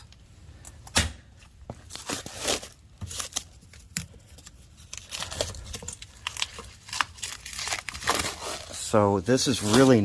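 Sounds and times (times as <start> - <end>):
plastic wrap crinkling: 1.7 - 10.0.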